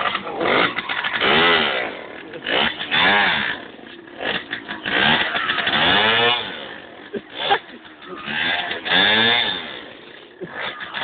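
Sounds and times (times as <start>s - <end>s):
moped engine revving: 0.0s - 11.0s.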